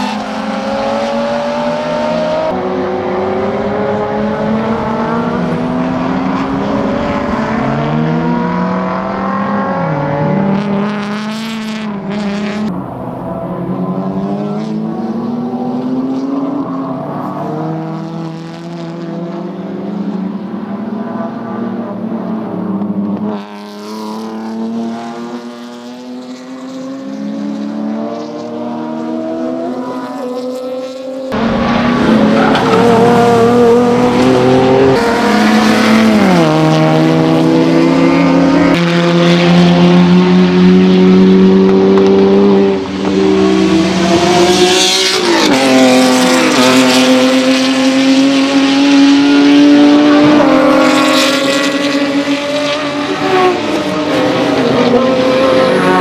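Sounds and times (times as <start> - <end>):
race car engines at high revs: 0.0 - 56.0.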